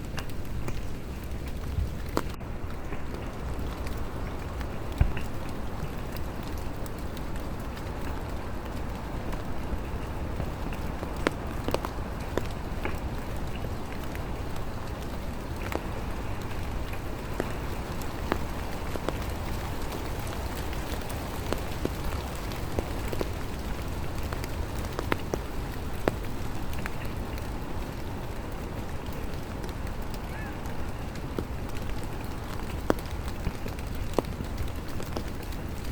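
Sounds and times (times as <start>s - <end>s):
light rain: 0.0s - 35.9s
drops ticking: 0.2s - 35.9s.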